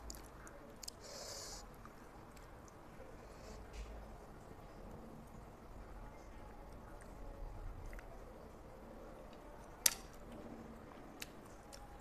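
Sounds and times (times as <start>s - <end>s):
soft chewing: 0.0s - 4.6s, 6.1s - 12.0s.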